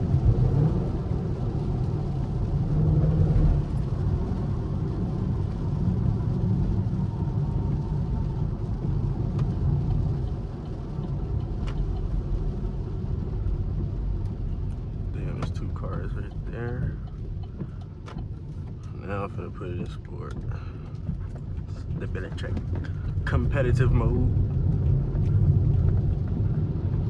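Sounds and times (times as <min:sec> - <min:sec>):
car engine low rumble: 0:00.0 - 0:27.0.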